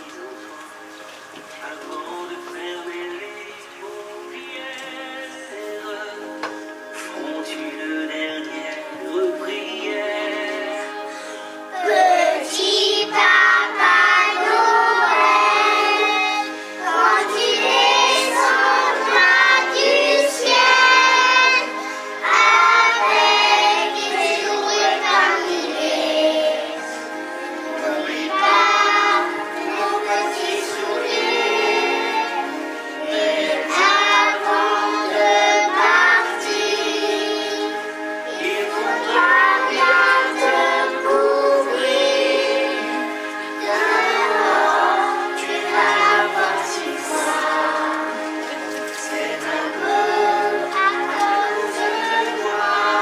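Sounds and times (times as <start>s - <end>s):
musical accompaniment: 0.0s - 53.0s
children singing: 1.6s - 53.0s.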